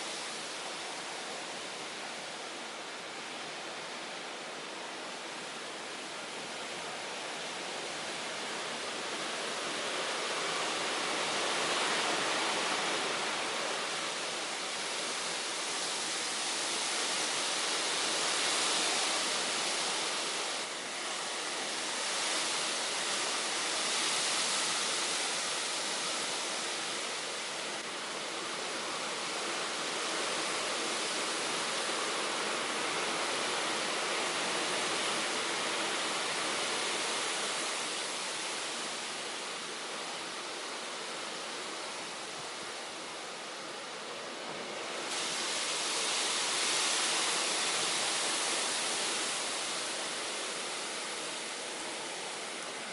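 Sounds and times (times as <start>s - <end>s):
storm rushing hiss: 0.0s - 52.9s.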